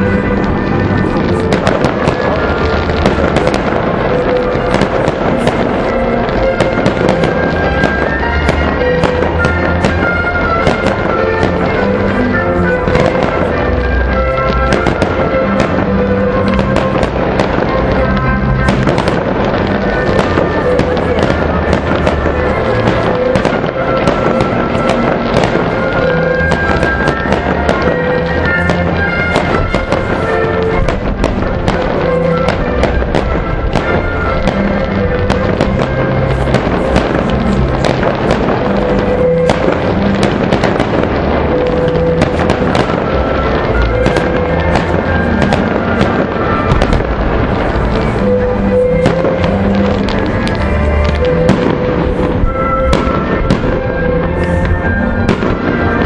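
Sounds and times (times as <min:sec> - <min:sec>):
fireworks bangs and crackles: 0:00.0 - 0:56.0
music with long held notes: 0:00.0 - 0:56.0.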